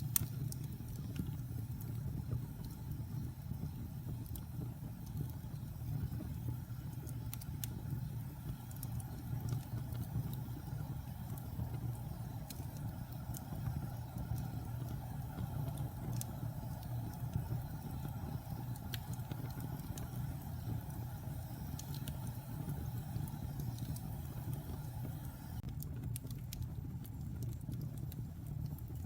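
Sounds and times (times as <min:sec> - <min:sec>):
wood fire burning: 0:00.0 - 0:29.0.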